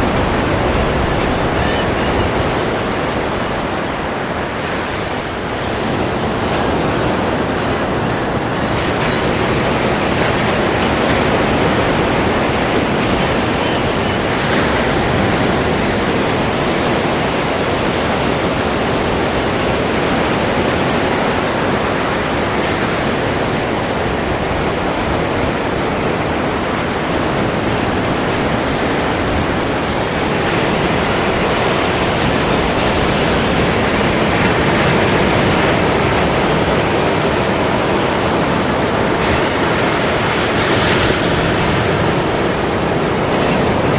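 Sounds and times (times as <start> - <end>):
ocean waves washing: 0.0 - 43.9.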